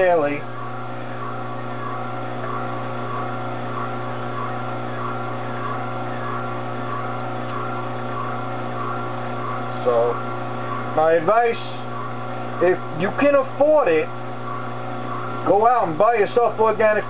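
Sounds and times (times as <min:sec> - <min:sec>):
juicer motor humming: 0:00.0 - 0:17.0.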